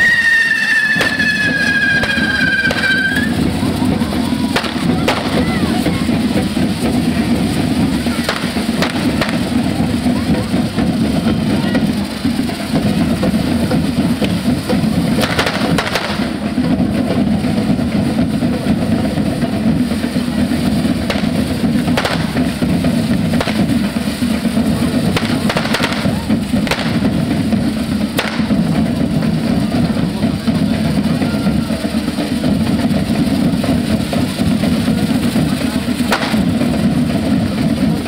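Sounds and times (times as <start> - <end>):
drum band playing: 0.0 - 38.0
fireworks crackling: 0.0 - 38.0.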